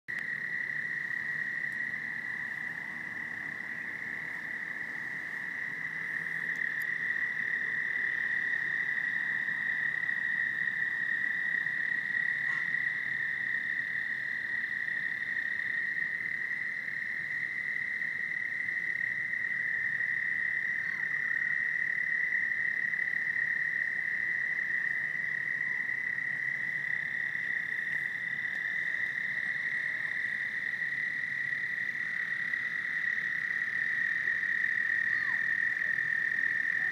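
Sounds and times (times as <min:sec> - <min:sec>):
toads trilling in chorus: 0:00.1 - 0:36.9.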